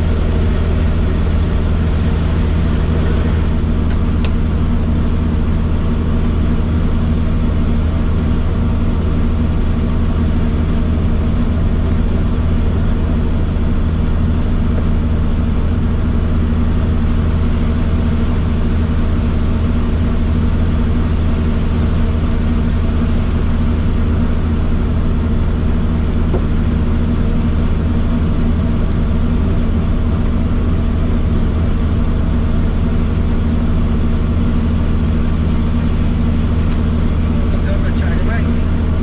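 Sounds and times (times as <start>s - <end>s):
helicopter engine and rotor: 0.0s - 39.0s.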